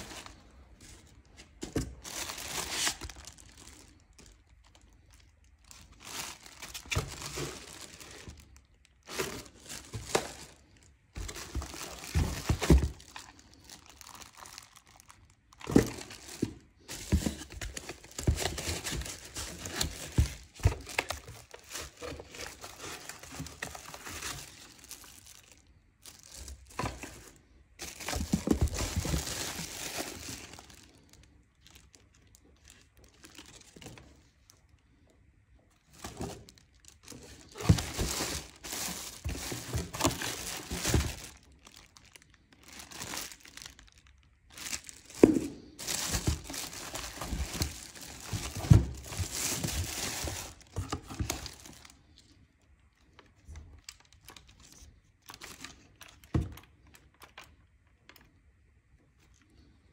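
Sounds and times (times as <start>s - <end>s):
plastic bags crinkling: 0.0s - 35.1s, 35.8s - 58.3s.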